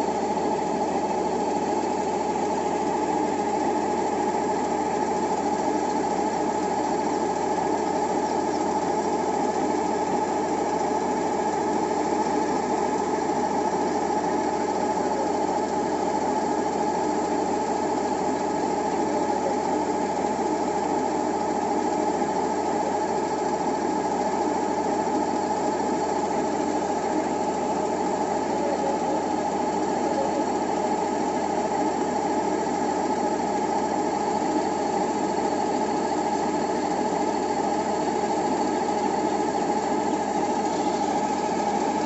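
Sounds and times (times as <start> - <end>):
combine harvester engine droning: 0.0 - 42.0
grain auger whine: 0.0 - 42.0.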